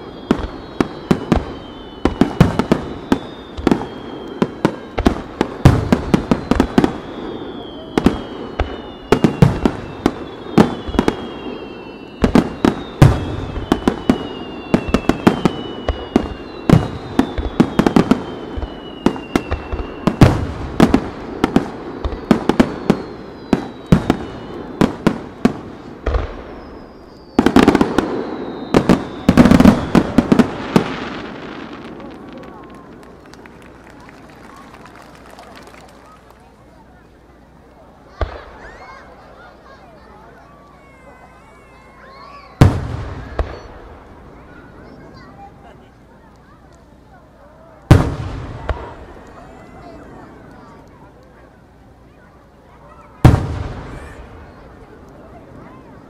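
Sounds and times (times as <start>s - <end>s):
falling firework whistles: 0.0s - 36.6s, 38.0s - 46.2s, 47.7s - 56.0s
fireworks bursts and bangs: 0.0s - 56.0s.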